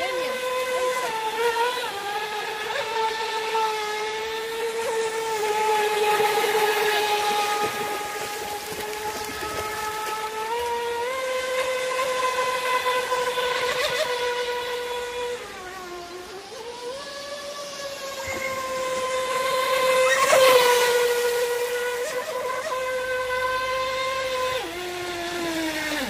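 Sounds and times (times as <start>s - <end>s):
rc boat motor whining: 0.0s - 26.0s.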